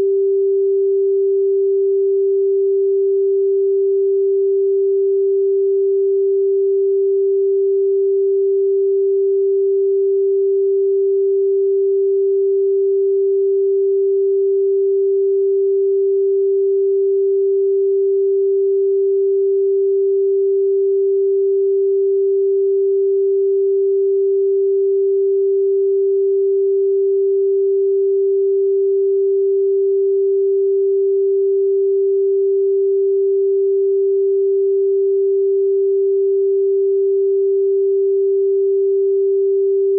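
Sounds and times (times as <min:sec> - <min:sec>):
pure sine-wave tone: 0:00.0 - 0:39.9.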